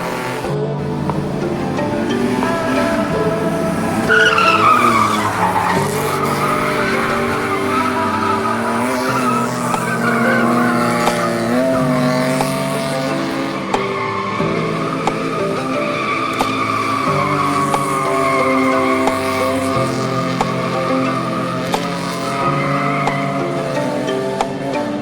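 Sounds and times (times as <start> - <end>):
music playing: 0.0 - 25.0
tyres squealing: 0.0 - 25.0.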